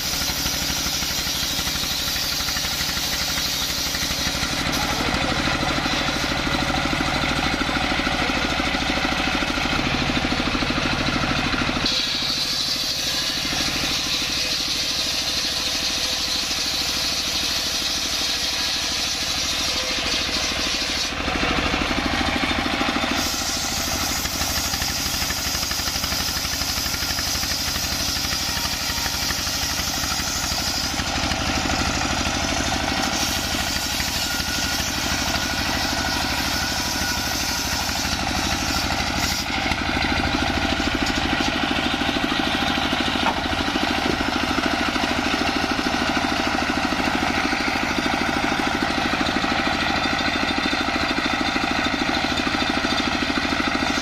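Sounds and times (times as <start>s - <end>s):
circular saw cutting log: 0.0s - 54.0s
diesel engine running: 0.0s - 54.0s.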